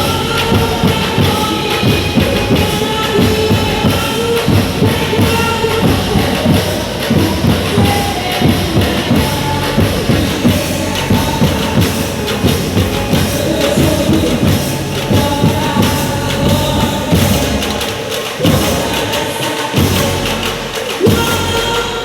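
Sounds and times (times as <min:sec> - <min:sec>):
music with steady percussion beat: 0:00.0 - 0:22.0.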